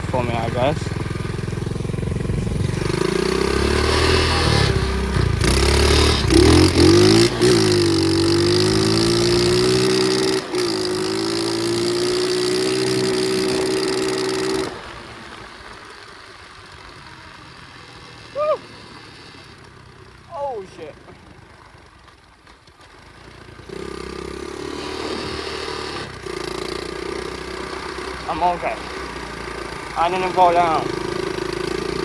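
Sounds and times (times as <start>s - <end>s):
pit bike engine running: 0.0s - 32.0s.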